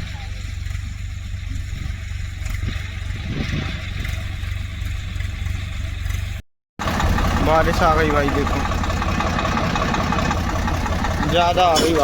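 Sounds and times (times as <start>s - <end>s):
tractor diesel engine throbbing: 0.0s - 12.0s.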